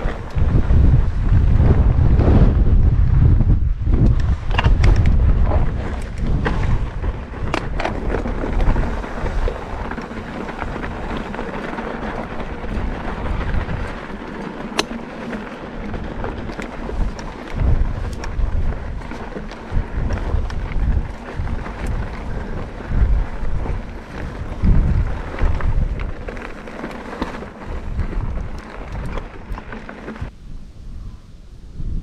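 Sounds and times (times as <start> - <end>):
bike tyres crunching on gravel: 0.0 - 30.4
wind buffeting microphone: 0.0 - 32.0
bike parts rattling: 4.1 - 30.3.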